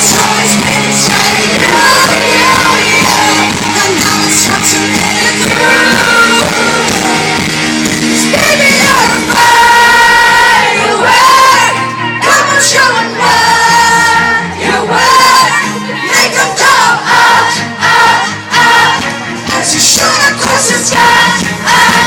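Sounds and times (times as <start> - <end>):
band playing pop music: 0.0 - 22.0
person singing: 0.0 - 22.0.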